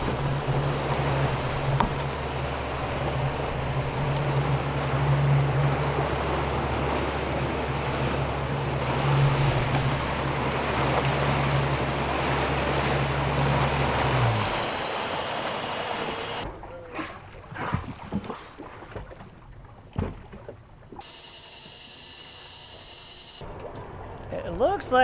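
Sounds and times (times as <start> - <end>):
outboard engine droning: 0.0 - 25.0
water rushing along hull: 0.0 - 25.0.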